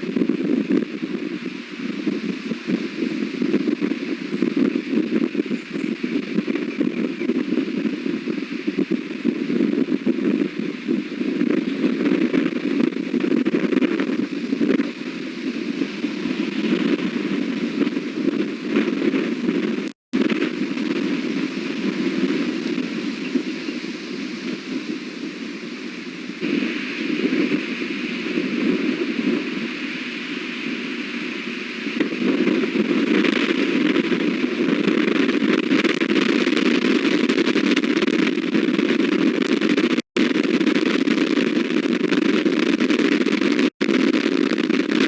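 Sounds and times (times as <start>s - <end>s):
strong wind buffeting microphone: 0.0s - 45.0s.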